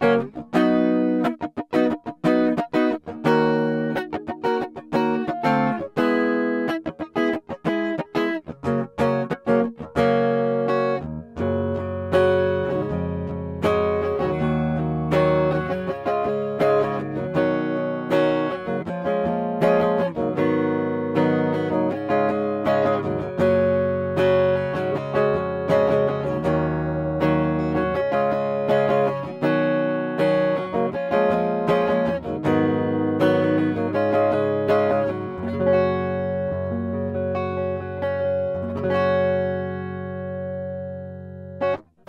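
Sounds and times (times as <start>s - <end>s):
clean electric guitar playing: 0.0s - 42.0s.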